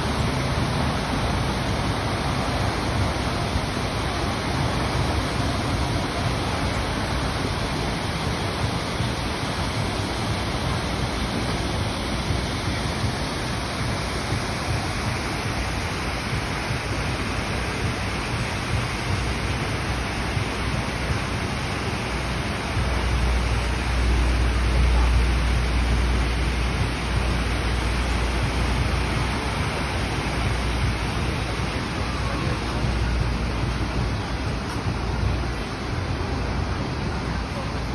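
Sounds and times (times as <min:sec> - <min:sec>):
water cascading down waterfalls: 0:00.0 - 0:37.9.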